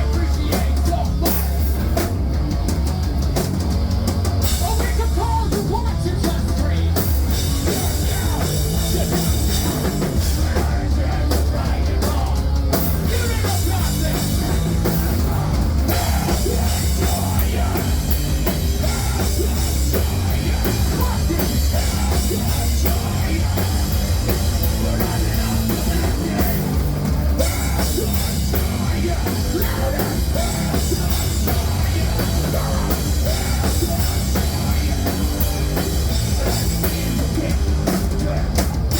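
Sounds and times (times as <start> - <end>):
punk band playing live: 0.0 - 38.9.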